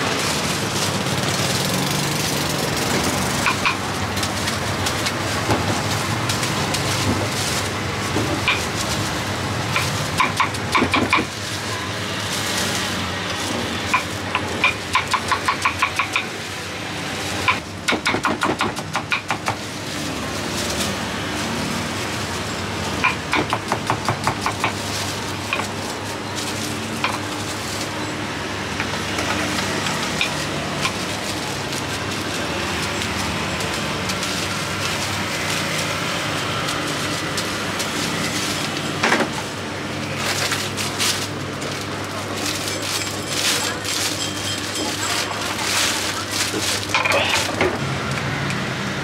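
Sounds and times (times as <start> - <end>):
street traffic noise: 0.0 - 49.0.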